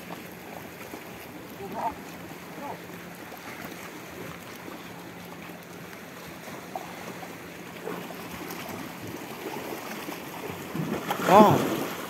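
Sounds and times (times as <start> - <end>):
sea water lapping against rocks: 0.0 - 12.0
small water splashes: 0.0 - 12.0.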